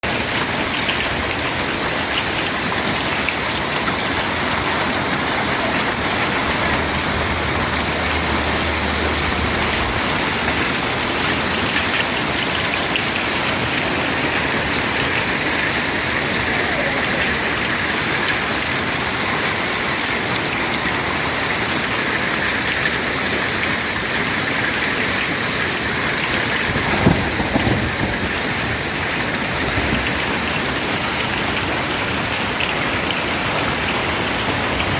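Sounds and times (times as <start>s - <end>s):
heavy rain and hail pelting: 0.0s - 34.9s.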